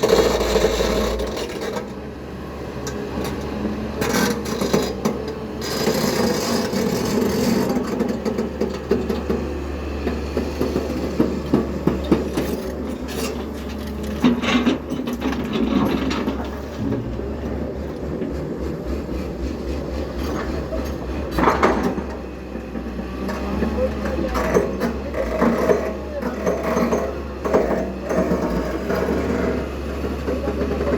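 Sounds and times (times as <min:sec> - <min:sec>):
diesel engine running: 0:00.0 - 0:30.9
clanks and scraping from digging: 0:02.9 - 0:30.9.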